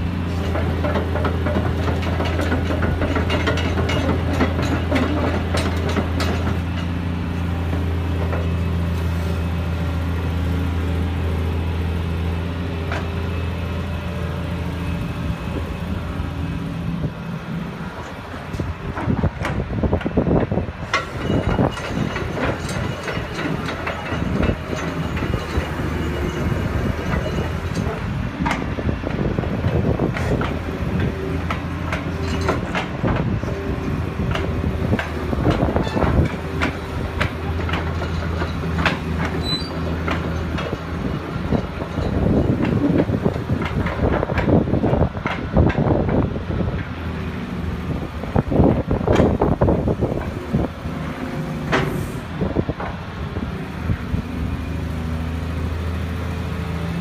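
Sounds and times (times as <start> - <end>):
diesel engine humming: 0.0 - 57.0
steel tracks clanking: 0.0 - 57.0.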